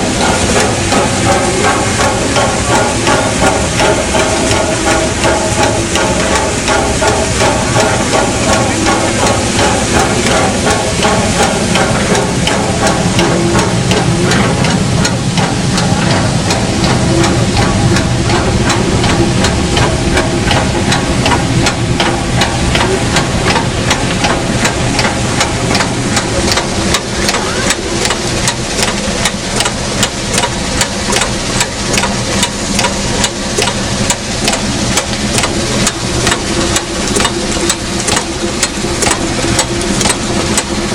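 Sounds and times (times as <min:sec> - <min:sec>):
steady drone: 0:00.0 - 0:40.9
train running noise: 0:00.0 - 0:40.9.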